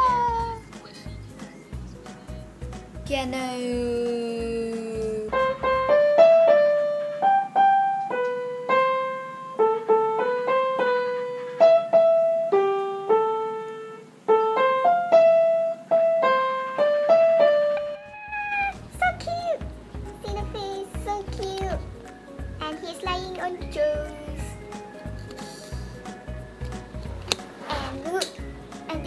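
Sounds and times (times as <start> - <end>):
piano melody: 0.0 - 29.0.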